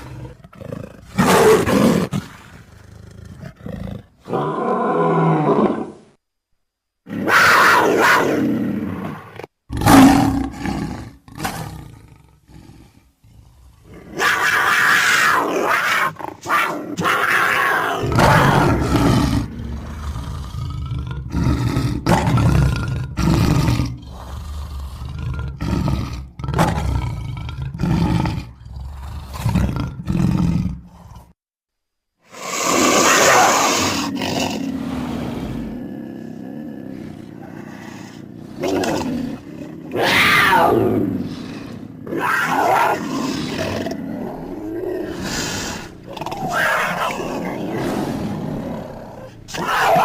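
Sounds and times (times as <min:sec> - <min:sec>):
big cat roars and snarls: 0:00.0 - 0:06.1, 0:07.0 - 0:31.4, 0:32.3 - 0:50.0.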